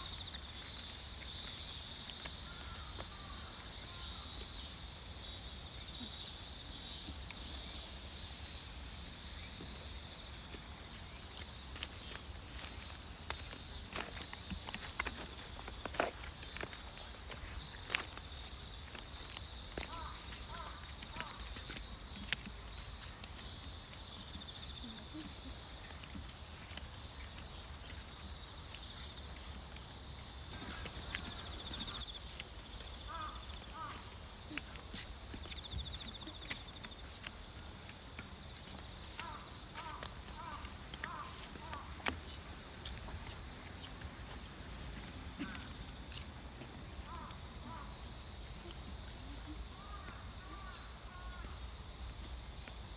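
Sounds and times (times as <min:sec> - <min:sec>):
crickets chirping: 0:00.0 - 0:52.9
insects trilling: 0:00.0 - 0:52.9
footsteps on dirt path: 0:00.1 - 0:04.6, 0:09.5 - 0:52.9.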